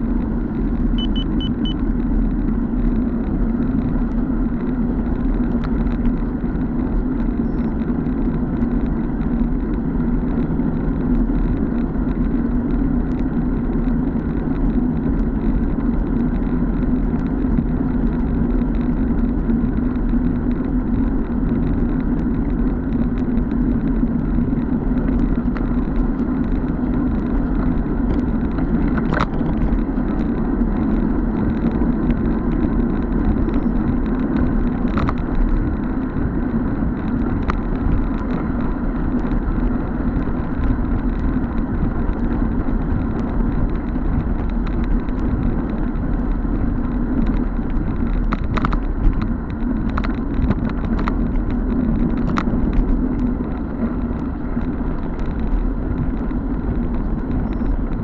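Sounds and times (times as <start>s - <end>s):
road rumble: 0.0s - 58.0s
wind noise: 0.0s - 58.0s.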